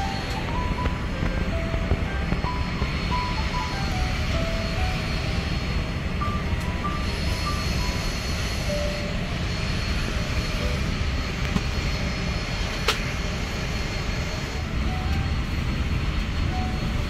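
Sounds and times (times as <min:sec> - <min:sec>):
jet airliner rushing noise: 0:00.0 - 0:17.0.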